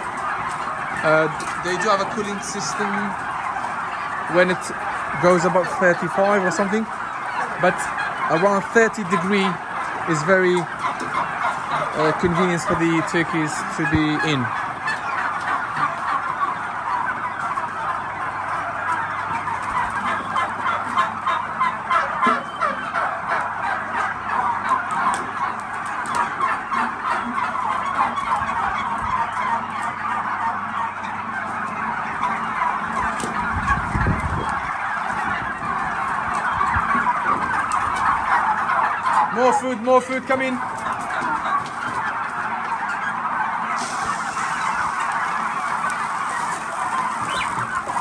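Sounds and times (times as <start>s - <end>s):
flock of turkeys gobbling: 0.0s - 48.0s.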